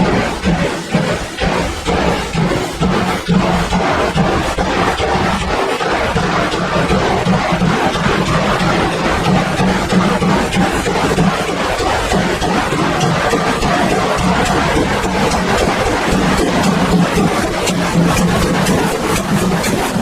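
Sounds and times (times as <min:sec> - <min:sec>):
model steam locomotive chuffing: 0:00.0 - 0:20.0
model train rolling rumble: 0:00.0 - 0:20.0.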